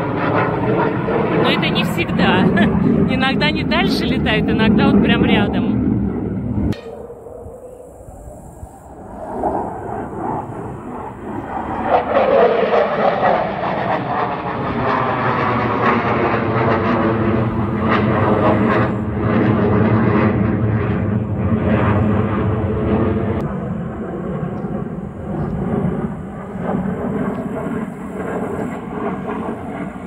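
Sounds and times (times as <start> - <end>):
falling engine whine: 0.0 - 30.0
jet aircraft flying overhead: 0.0 - 30.0.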